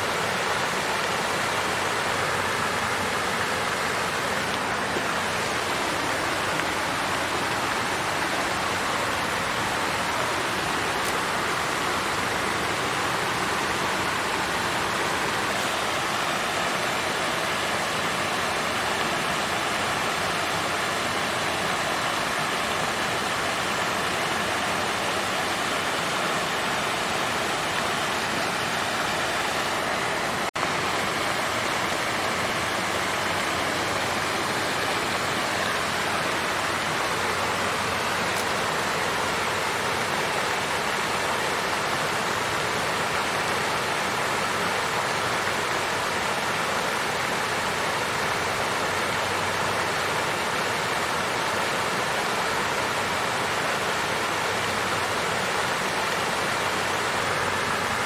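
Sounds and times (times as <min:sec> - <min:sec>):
water fountain splashing: 0:00.0 - 0:58.0.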